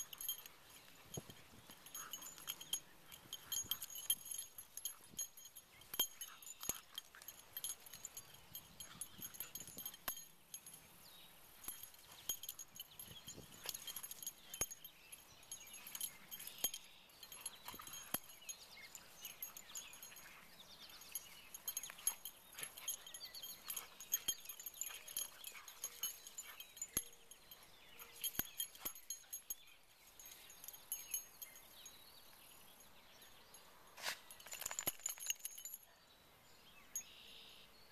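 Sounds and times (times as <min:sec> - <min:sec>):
metal collar tags jingling: 0:00.0 - 0:37.6.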